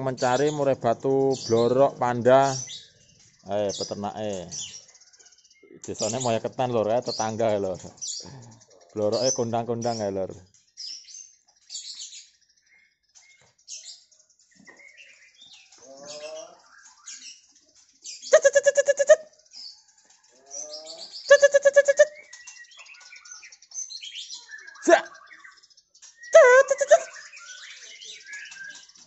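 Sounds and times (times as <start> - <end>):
pulsing rattle-like bird calls: 0.0 - 29.0
songbirds chirping: 0.0 - 29.0.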